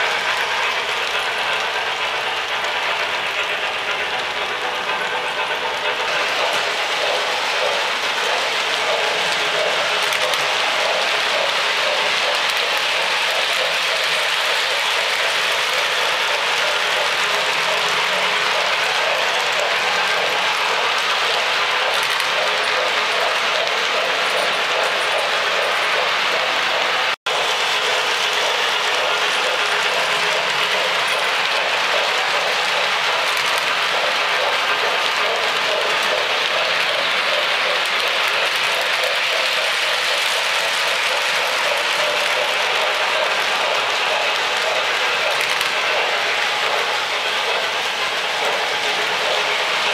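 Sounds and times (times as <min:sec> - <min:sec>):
model train motors whirring: 0:00.0 - 0:49.9.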